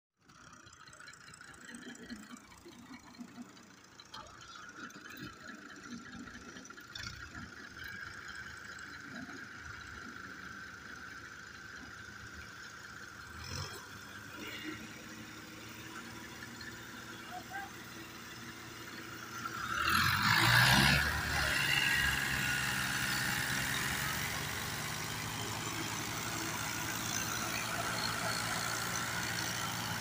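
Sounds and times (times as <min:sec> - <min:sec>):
tractor engines running under load: 0:00.2 - 0:30.0.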